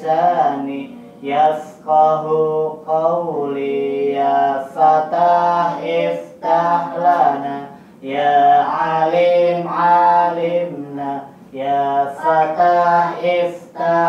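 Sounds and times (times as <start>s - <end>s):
man chanting recitation: 0.0s - 14.0s.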